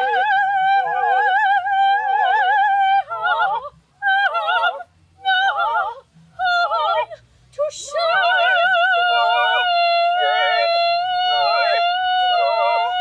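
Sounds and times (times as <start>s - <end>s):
operatic singing voices: 0.0s - 13.0s.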